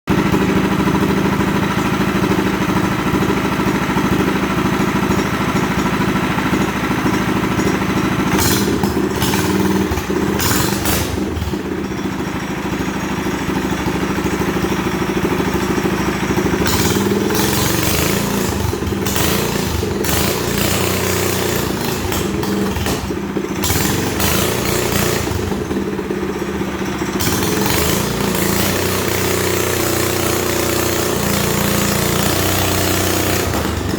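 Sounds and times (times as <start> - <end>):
small engine running: 0.1 - 33.9.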